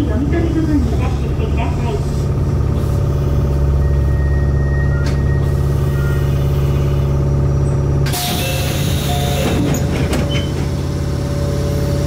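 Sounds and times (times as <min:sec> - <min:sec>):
electric train hum and rumble: 0:00.0 - 0:12.0.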